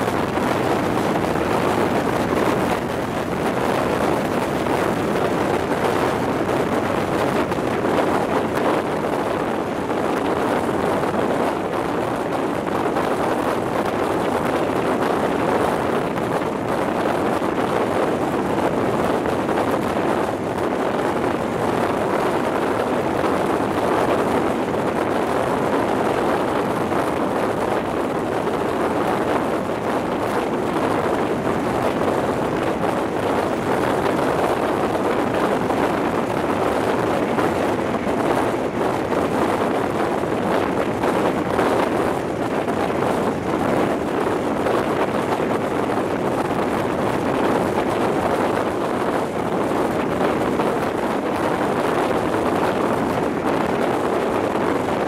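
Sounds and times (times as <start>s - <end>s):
wind buffeting a microphone: 0.0s - 55.0s.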